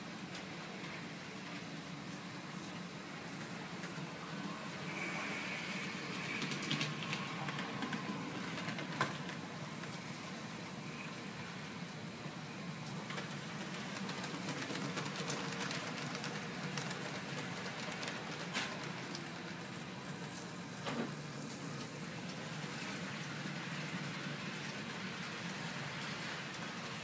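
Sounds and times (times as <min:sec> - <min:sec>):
model train whirring on track: 0:00.0 - 0:27.0.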